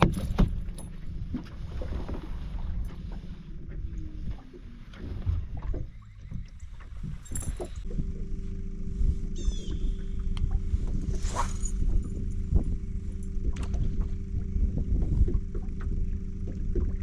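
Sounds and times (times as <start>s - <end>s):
boat motor humming: 0.0s - 17.0s
low rumble: 0.0s - 17.0s.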